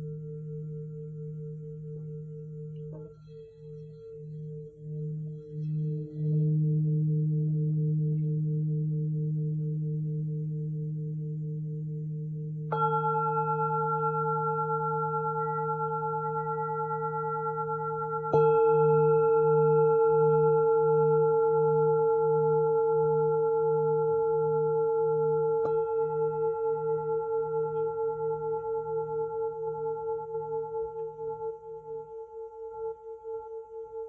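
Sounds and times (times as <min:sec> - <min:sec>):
singing bowl ringing: 0:00.0 - 0:34.0.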